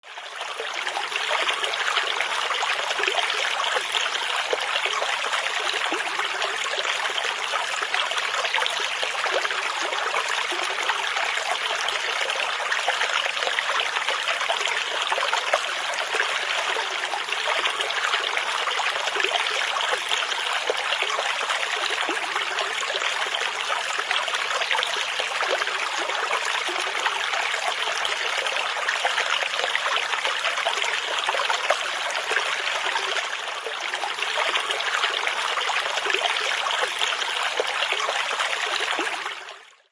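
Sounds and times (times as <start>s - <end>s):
river water flowing: 0.0s - 39.6s.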